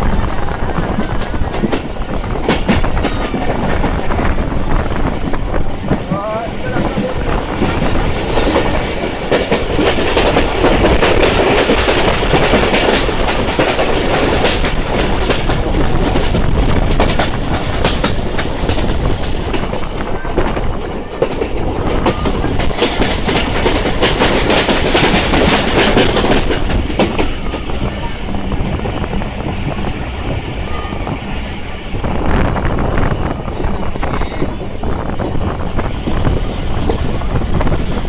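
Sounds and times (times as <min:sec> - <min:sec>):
wheels clattering over rail joints: 0:00.0 - 0:32.0
train coaches rumbling: 0:00.0 - 0:38.0.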